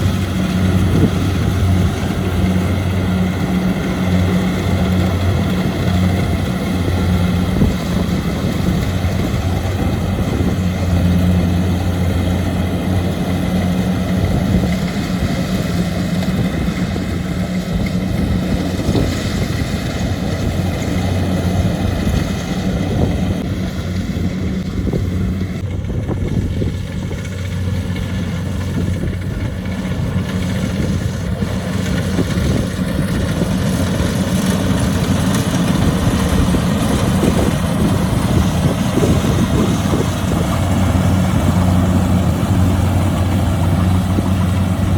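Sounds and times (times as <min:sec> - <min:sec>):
combine harvester engine droning: 0:00.0 - 0:44.9.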